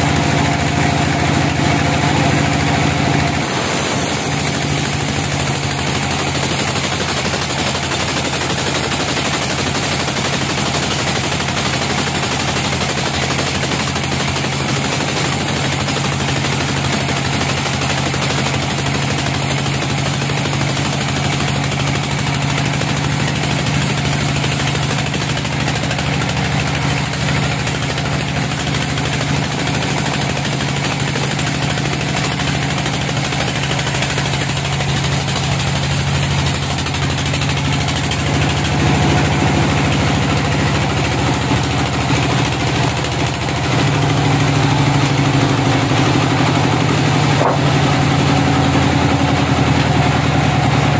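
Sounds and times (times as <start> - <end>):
band saw cutting log: 0.0 - 50.9.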